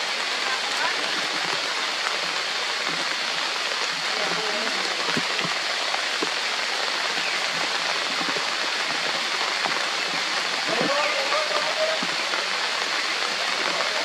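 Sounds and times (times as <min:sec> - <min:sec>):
hard rain on foliage: 0:00.0 - 0:14.0.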